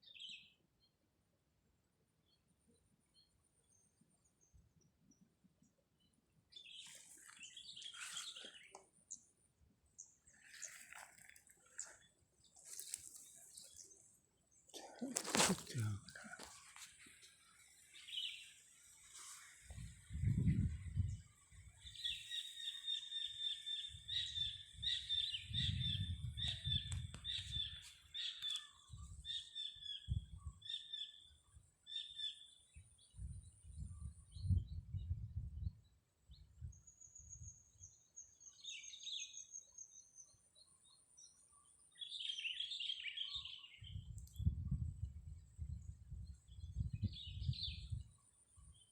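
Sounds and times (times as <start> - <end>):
small birds chirping: 3.1 - 45.0, 45.6 - 48.9.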